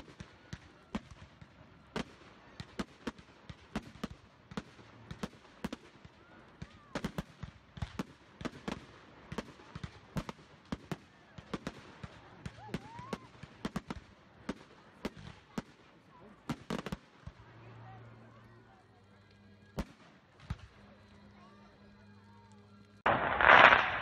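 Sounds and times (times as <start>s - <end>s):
fireworks bangs and crackles: 0.0s - 18.8s, 19.8s - 21.2s, 23.0s - 24.0s.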